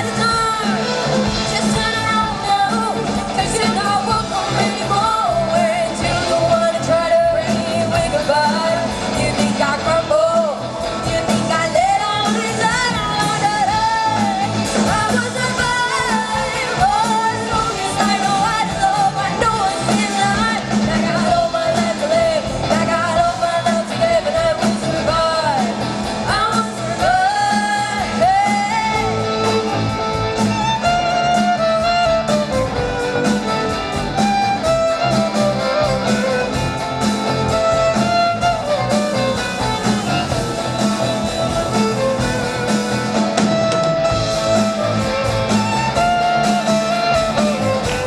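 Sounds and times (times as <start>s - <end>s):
lead singer singing: 0.0s - 48.0s
live band playing: 0.0s - 48.0s.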